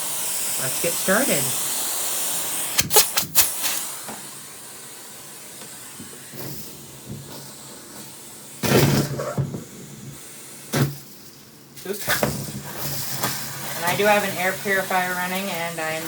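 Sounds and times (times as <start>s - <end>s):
debris clattering up hose: 0.0s - 4.4s, 5.6s - 16.0s
vacuum hose rushing air: 0.0s - 16.0s.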